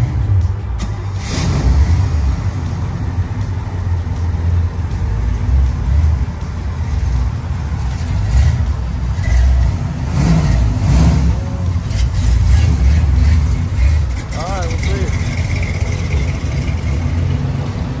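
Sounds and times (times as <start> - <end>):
pickup truck engines rumbling: 0.0 - 18.0.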